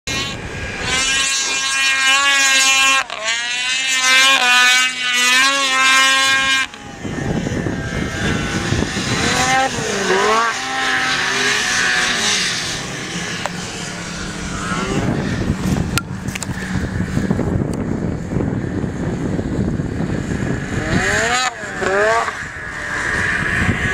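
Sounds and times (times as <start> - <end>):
snowmobile engines revving: 0.1 - 23.9.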